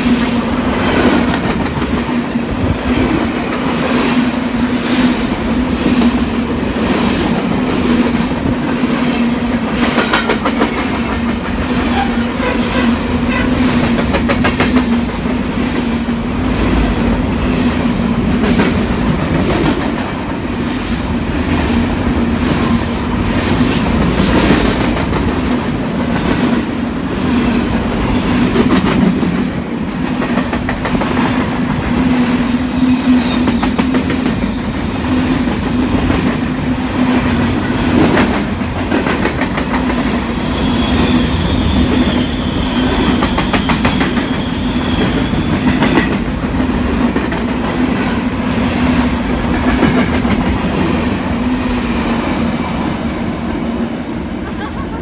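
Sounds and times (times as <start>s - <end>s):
freight train rolling rumble: 0.0s - 55.0s.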